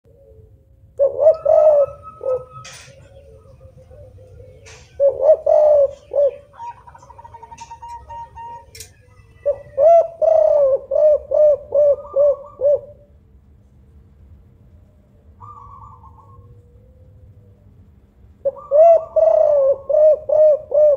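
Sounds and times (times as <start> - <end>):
dove cooing: 0.1 - 13.2, 15.4 - 17.6, 18.4 - 20.9.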